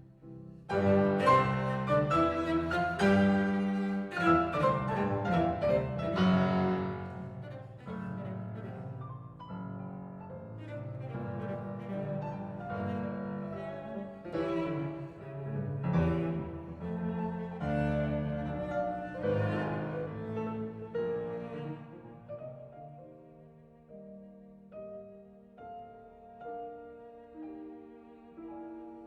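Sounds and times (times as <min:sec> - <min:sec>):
cello and piano music: 0:00.0 - 0:29.0.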